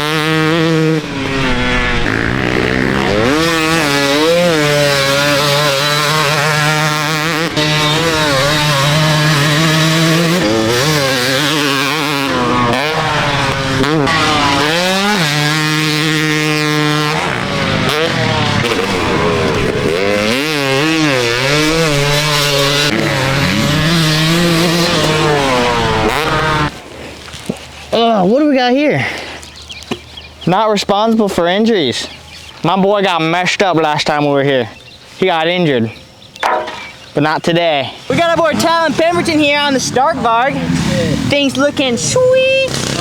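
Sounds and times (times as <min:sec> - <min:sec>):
dirt bike engine revving: 0:00.0 - 0:26.8, 0:31.8 - 0:43.0.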